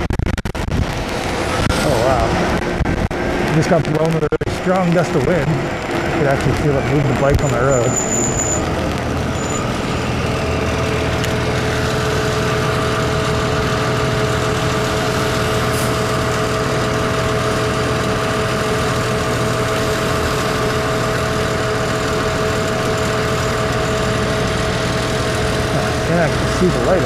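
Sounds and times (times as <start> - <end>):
steady two-note whine: 0.6 - 27.0.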